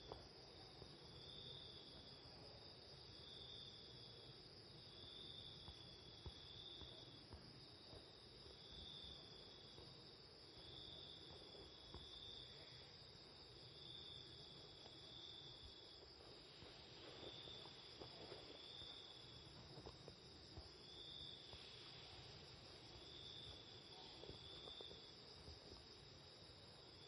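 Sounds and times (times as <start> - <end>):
insect chirping trill: 0.0 - 27.0
steady background hiss: 0.0 - 27.0.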